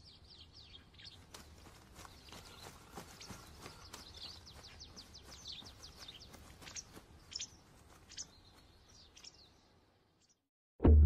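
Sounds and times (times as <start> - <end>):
faint outdoor ambience: 0.0 - 10.4
birds chirping: 0.0 - 10.5.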